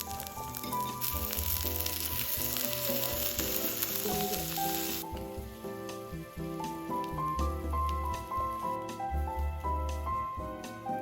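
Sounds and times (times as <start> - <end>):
beef sizzling on a grill: 0.0 - 10.2
background music: 0.0 - 11.0.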